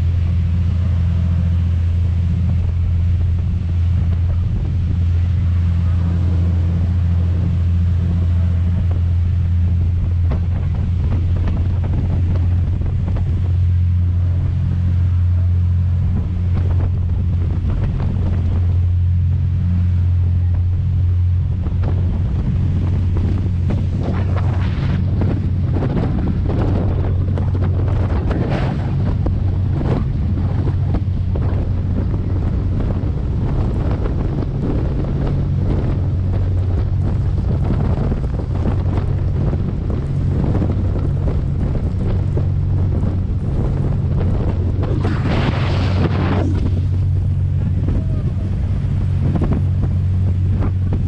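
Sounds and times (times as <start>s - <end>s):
churning wake rushing: 0.0s - 51.0s
ferry engines droning: 0.0s - 51.0s
wind buffeting microphone: 0.0s - 51.0s.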